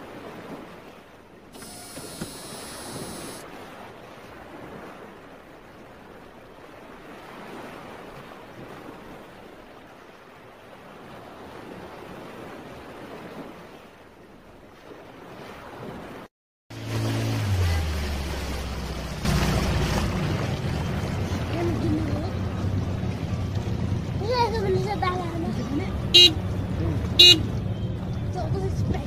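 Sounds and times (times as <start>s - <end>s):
rushing water: 0.0s - 29.0s
wind: 0.0s - 29.0s.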